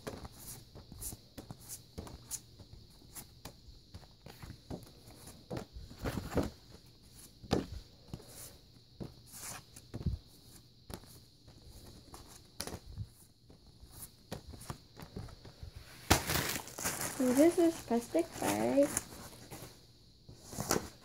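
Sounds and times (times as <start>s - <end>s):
picture cards tapping and sliding on carpet: 0.1s - 21.0s.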